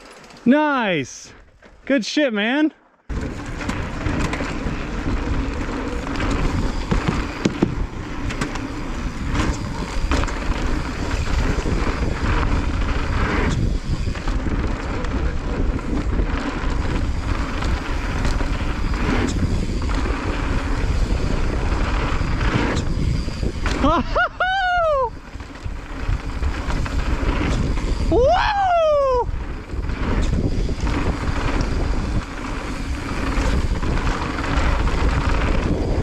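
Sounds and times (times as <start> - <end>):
bike knocks and rattles: 0.0 - 0.5, 3.1 - 24.3, 25.1 - 28.2, 29.3 - 36.0
bike tyres rolling on dirt: 0.0 - 1.9, 2.8 - 36.0
wind buffeting microphone: 3.1 - 36.0.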